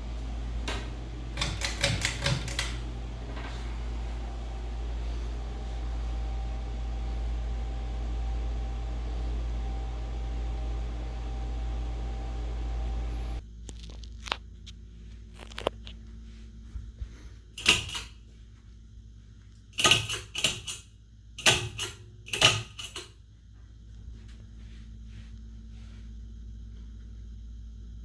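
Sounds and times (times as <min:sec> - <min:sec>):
ceiling fan whirring: 0:00.0 - 0:28.0.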